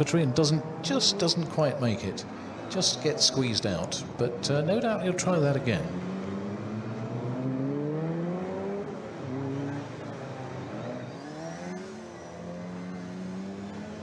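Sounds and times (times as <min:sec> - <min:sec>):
racing car engines accelerating: 0:00.0 - 0:14.0.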